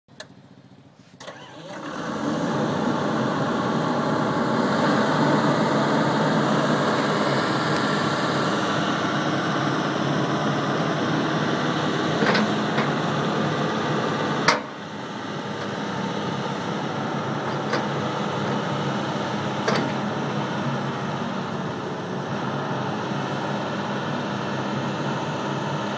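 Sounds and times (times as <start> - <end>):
excavator diesel engine: 0.1 - 25.9.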